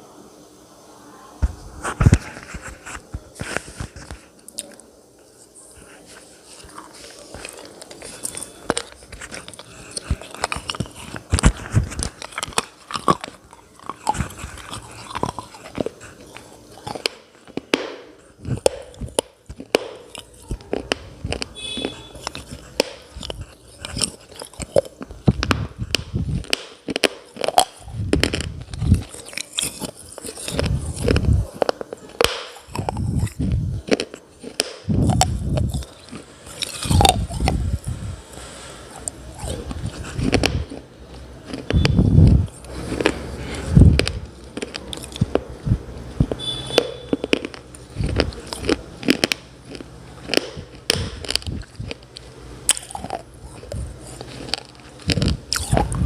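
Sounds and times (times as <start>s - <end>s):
chewing brittle clay crunches: 5.6s - 56.0s.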